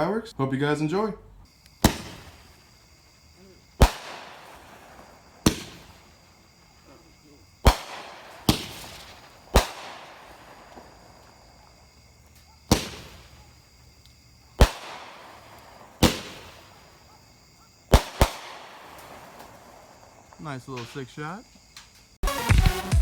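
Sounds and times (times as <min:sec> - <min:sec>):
crackling hiss of glitter fireworks: 0:01.5 - 0:23.0
firework bangs: 0:01.5 - 0:23.0.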